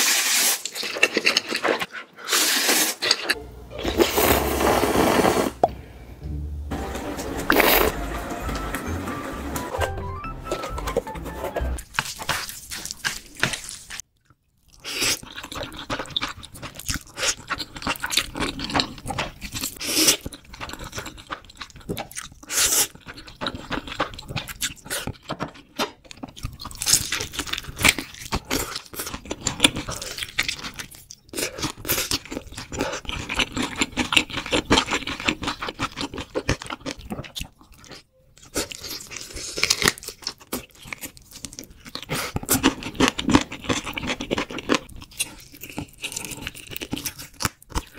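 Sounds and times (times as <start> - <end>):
crunching and chewing fried chicken: 0.1 - 3.4, 11.8 - 47.9.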